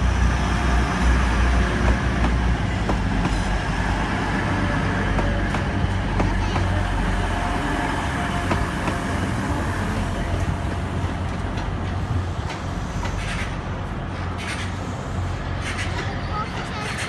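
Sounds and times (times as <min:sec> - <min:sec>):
diesel train engine rumble: 0:00.0 - 0:17.0.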